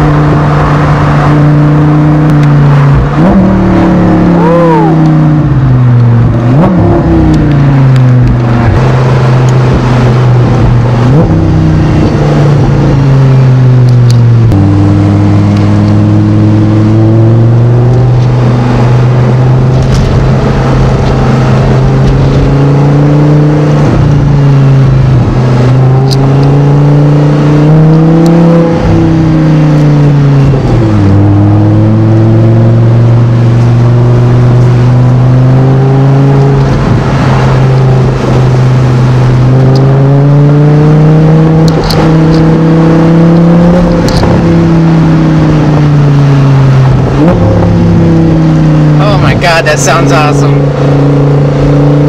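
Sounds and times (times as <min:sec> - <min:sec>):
car engine pulling hard: 0:00.0 - 0:52.0.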